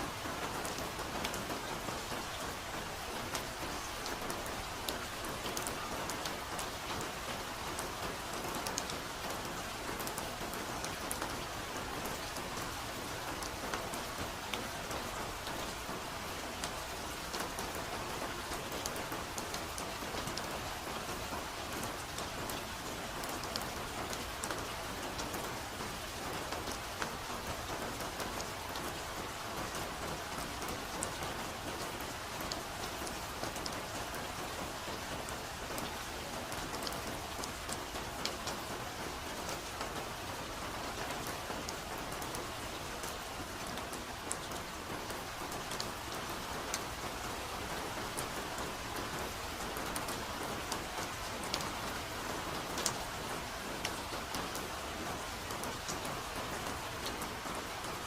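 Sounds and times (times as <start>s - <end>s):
soft steady rain: 0.0s - 58.0s.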